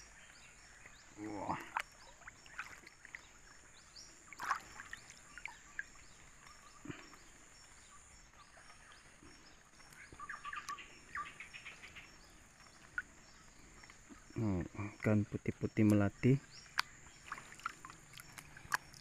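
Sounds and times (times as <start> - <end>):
high insect drone with chirps: 0.0 - 19.0
water sloshing and splashing: 0.6 - 10.8, 11.8 - 14.4, 16.4 - 19.0.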